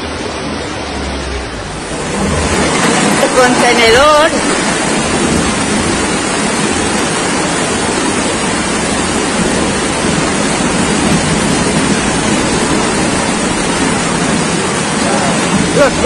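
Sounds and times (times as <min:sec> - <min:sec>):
torrential rain and rushing floodwater: 0:00.0 - 0:16.0.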